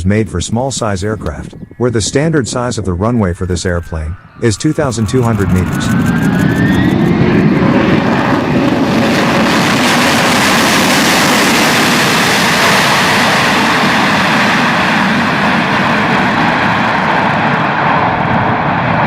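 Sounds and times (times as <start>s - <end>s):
airplane engines roaring: 0.0s - 19.0s.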